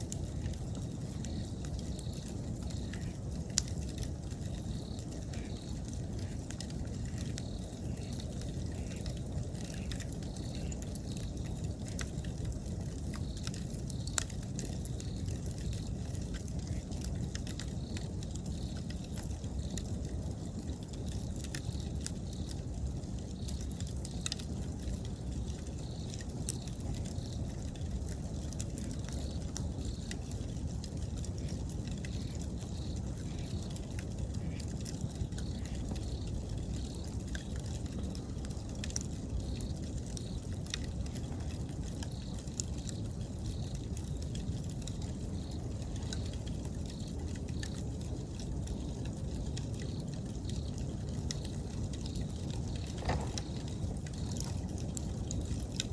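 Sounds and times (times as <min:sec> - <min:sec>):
bonfire crackling and popping: 0:00.0 - 0:55.9
insects chirping: 0:00.0 - 0:55.9
low fire rumble: 0:00.0 - 0:55.9.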